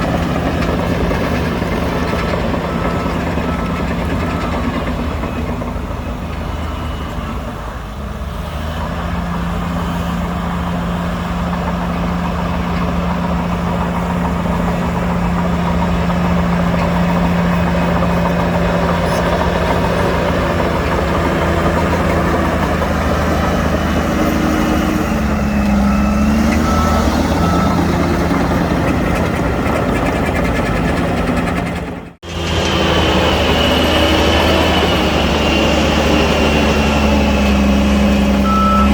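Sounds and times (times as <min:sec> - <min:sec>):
diesel earthmoving machinery: 0:00.0 - 0:38.9.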